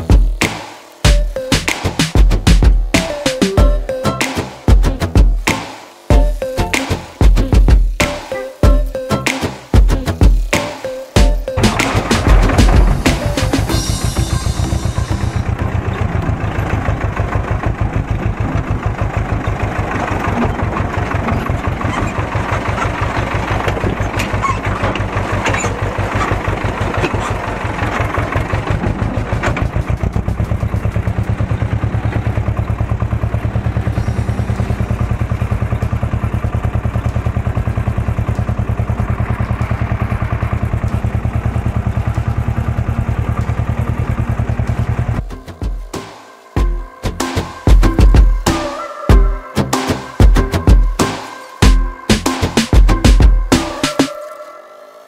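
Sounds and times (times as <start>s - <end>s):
tractor diesel engine clattering: 1.1s - 46.0s.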